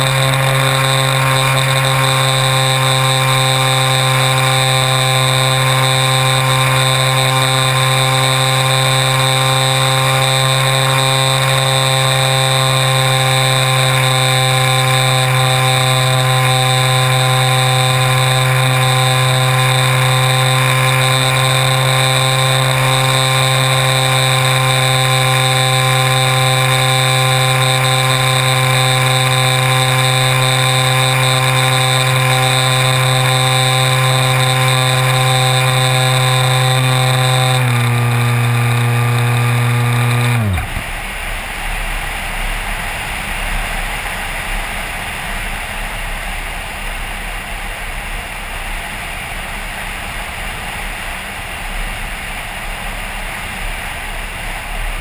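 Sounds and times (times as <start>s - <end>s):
electric motor and propeller whining: 0.0s - 44.8s.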